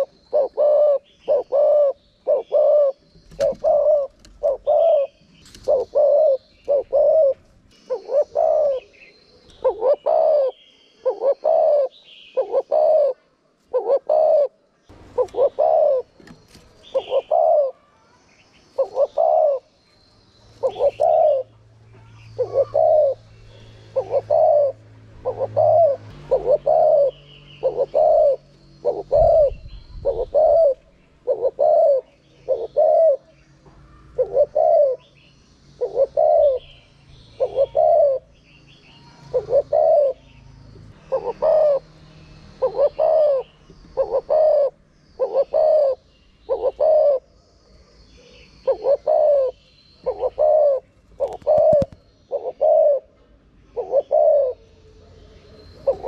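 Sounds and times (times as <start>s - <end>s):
dove cooing: 0.0s - 17.9s, 18.7s - 19.7s, 20.6s - 35.2s, 35.8s - 36.8s, 37.4s - 40.4s, 41.0s - 41.9s, 42.5s - 47.3s, 48.2s - 54.7s, 55.8s - 56.0s.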